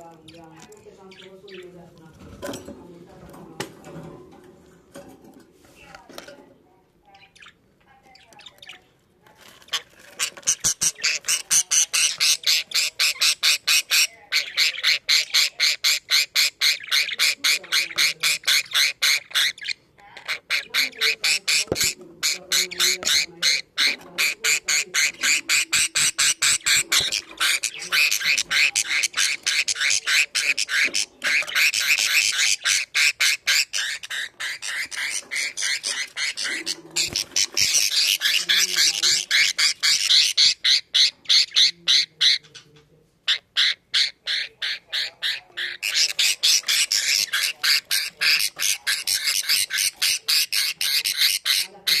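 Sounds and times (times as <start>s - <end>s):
budgerigar chicks chirping: 0.0s - 3.4s, 7.1s - 52.0s.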